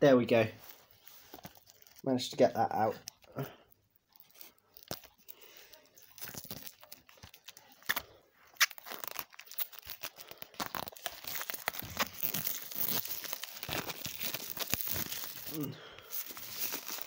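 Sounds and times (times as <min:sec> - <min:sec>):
plastic wrap crinkling and tearing: 0:00.6 - 0:17.0.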